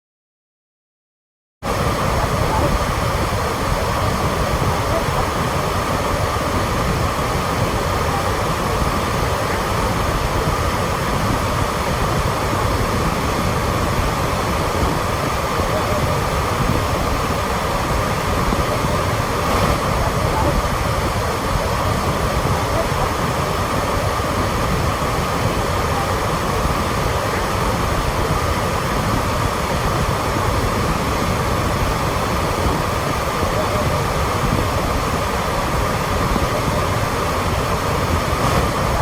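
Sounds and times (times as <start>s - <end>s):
waterfall rushing: 1.6s - 39.0s.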